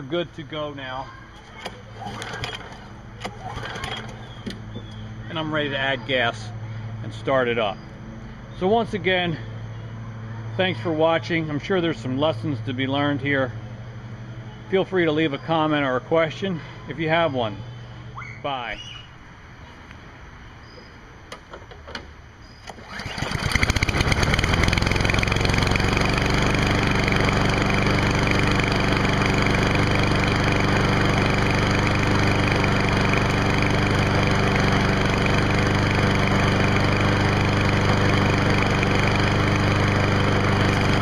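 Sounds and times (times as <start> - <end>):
lawn mower engine starting and running: 0.0 - 15.2, 21.3 - 41.0.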